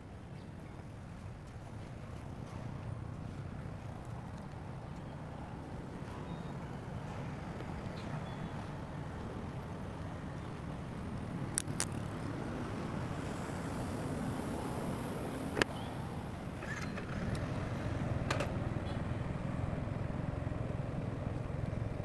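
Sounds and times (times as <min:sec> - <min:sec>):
road vehicle rumble: 0:00.0 - 0:22.0.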